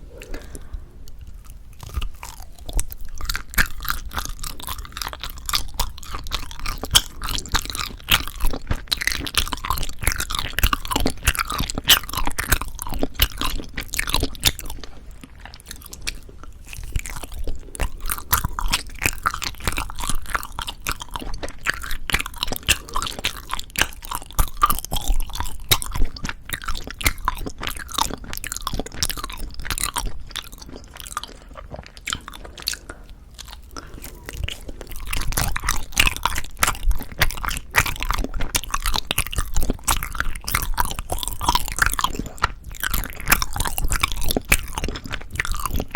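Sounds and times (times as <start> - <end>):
chewing mouth clicks and smacks: 0.1 - 45.9.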